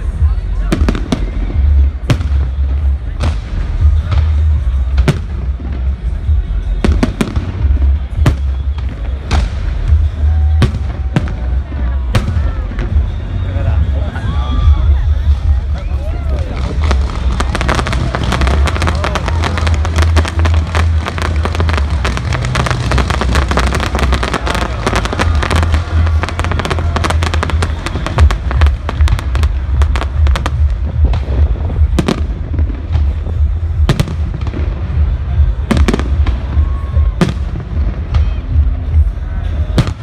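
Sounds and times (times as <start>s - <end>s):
deep rumble: 0.0s - 40.0s
fireworks crackling and banging: 0.0s - 40.0s.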